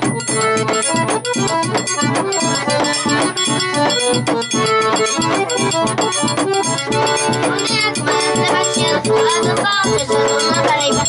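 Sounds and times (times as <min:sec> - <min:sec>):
accordion playing quick notes: 0:00.0 - 0:11.0
steady beat: 0:00.0 - 0:11.0.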